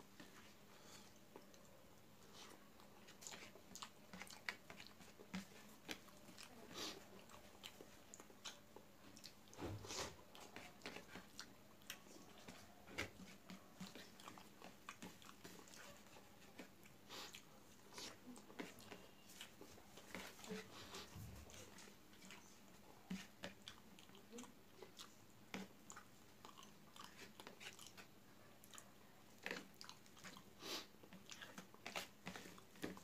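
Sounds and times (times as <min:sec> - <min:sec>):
person chewing food: 0:00.1 - 0:33.0.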